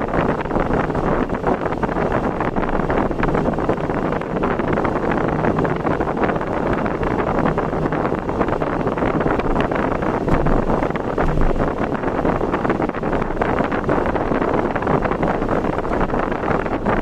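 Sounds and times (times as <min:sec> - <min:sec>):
low engine hum: 0:00.0 - 0:17.0
road noise: 0:00.0 - 0:17.0
wind buffeting microphone: 0:00.0 - 0:17.0.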